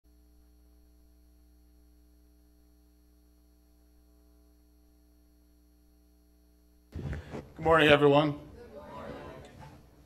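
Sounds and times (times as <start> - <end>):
low electrical hum: 0.1 - 10.0.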